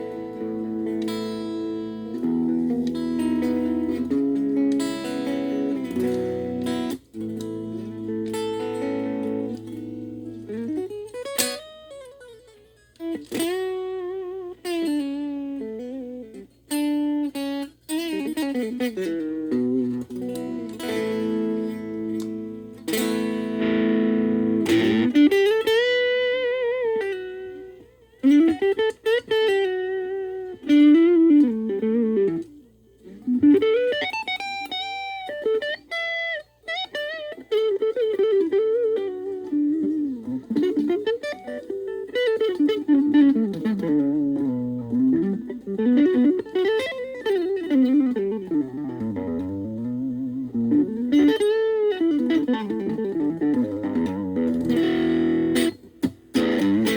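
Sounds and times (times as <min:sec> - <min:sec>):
electric guitar chord ringing: 0:00.0 - 0:56.9
electric guitar lead lines: 0:00.0 - 0:56.9.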